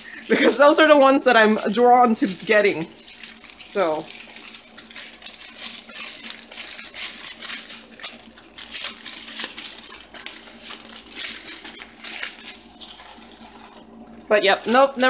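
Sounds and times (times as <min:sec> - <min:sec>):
plastic bags crinkling: 0:00.0 - 0:15.0
small beads rattling in bags: 0:00.0 - 0:15.0.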